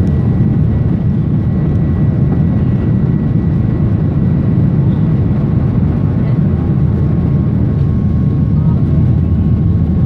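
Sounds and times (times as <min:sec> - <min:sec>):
high jet engine whine: 0:00.0 - 0:10.0
jet engine roar: 0:00.0 - 0:10.0.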